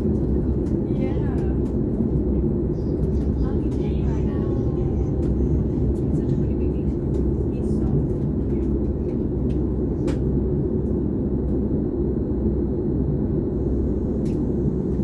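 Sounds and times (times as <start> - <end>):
train cabin rumble: 0.0 - 15.0.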